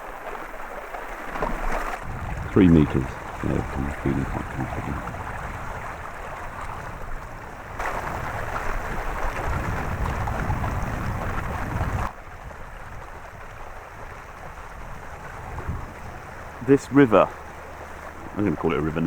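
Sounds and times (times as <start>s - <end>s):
water rushing past boat: 0.0s - 19.0s
wind on microphone: 2.0s - 19.0s.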